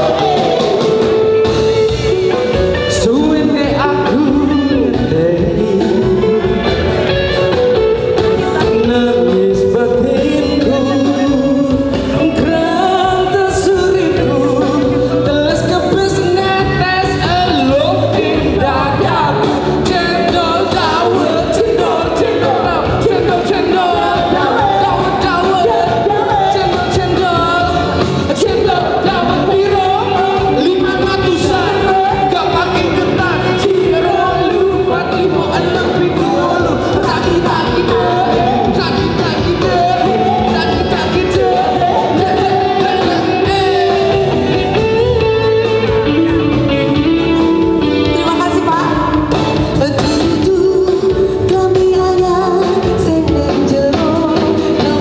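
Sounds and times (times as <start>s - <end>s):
amplified singing: 0.0s - 55.0s
live band playing pop song: 0.0s - 55.0s.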